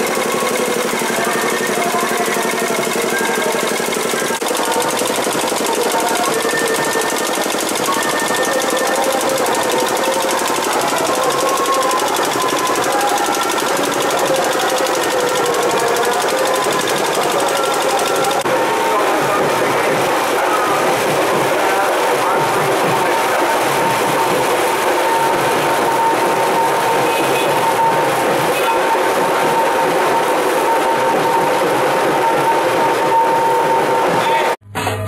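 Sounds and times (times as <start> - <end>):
fast percussion beating: 0.0 - 34.6.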